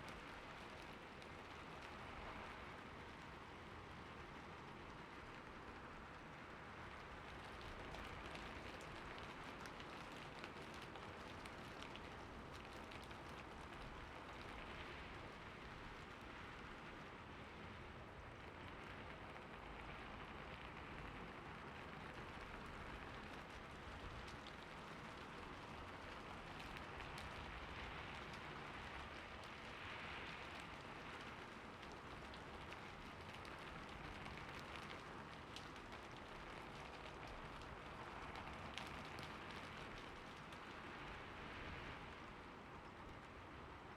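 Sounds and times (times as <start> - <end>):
gentle rainfall: 0.0 - 43.9.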